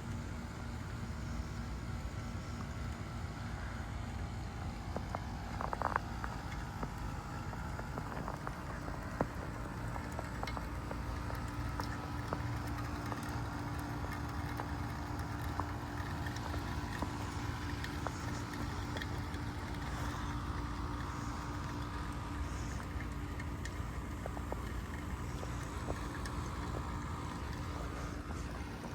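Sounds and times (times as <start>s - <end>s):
compressor humming: 0.0s - 28.9s
sizzling dripping hiss: 0.0s - 28.9s
small ticks: 0.1s - 28.9s.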